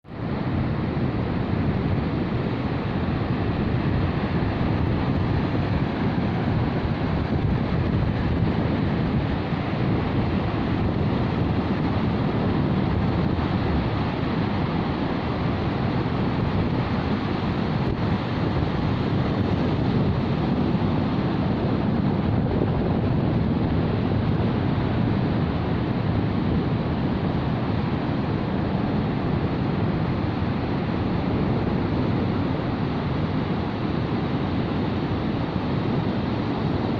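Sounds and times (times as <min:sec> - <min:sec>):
wind buffeting microphone: 0:00.0 - 0:36.9
sea waves washing on shore: 0:00.1 - 0:36.9.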